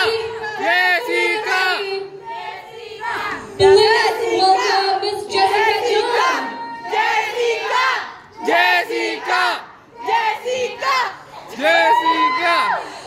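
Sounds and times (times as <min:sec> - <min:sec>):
crowd shouting and screaming: 0:00.0 - 0:13.0.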